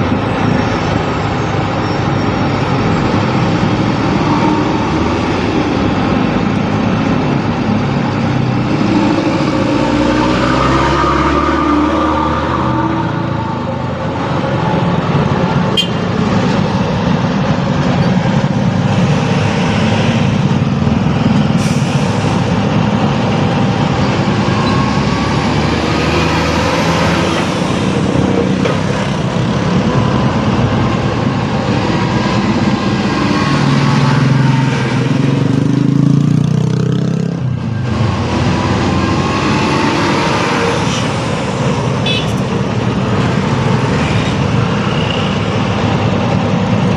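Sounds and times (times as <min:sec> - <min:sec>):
road noise: 0:00.0 - 0:46.9
vehicle engines running: 0:00.0 - 0:46.9.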